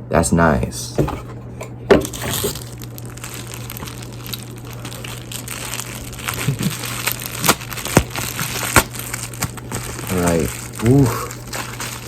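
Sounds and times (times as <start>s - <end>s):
packaging crinkling and rustling: 0.9s - 12.0s
small clicks and crackles: 1.1s - 12.0s.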